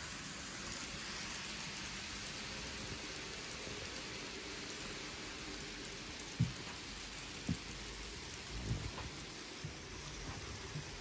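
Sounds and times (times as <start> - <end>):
model train running on rails: 0.0 - 11.0.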